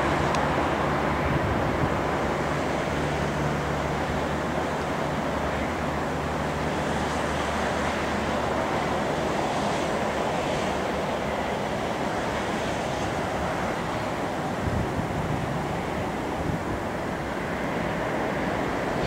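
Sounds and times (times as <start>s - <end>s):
low engine hum: 0.0s - 19.0s
street traffic: 0.0s - 19.0s
tram moving: 0.0s - 19.0s.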